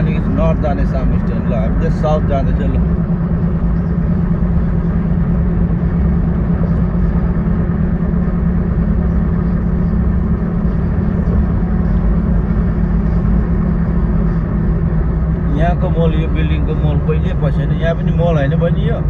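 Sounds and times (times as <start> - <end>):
car driving on highway: 0.0 - 19.0.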